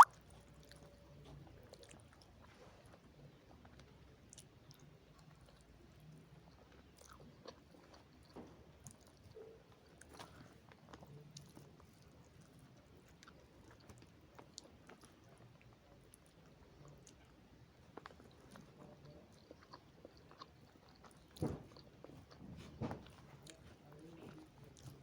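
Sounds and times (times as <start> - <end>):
people chewing noodles: 0.0 - 25.0.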